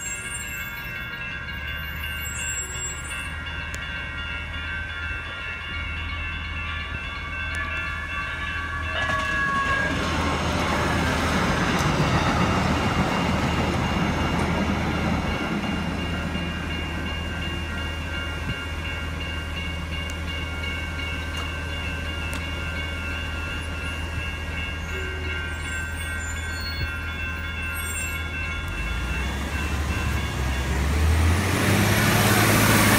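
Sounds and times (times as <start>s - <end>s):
railroad crossing bells ringing: 0.0s - 32.9s
train rumbling past: 0.0s - 32.9s.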